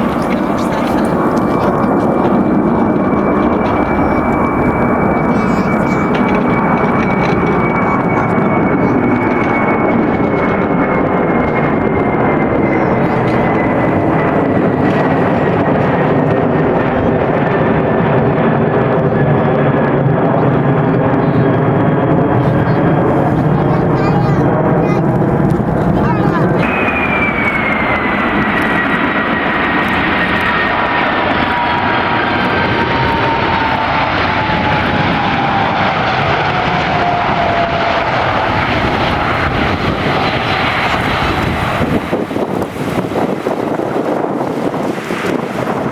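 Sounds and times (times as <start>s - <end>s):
jet engine whine: 0.0s - 45.9s
jet engines roaring: 0.0s - 45.9s.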